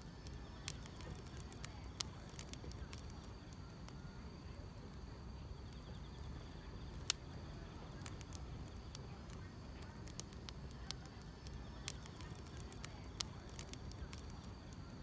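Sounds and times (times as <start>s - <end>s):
grass insects chirping: 0.0s - 4.6s, 5.3s - 15.0s
low steady rumble: 0.0s - 15.0s
wood fire crackling and popping: 0.0s - 15.0s.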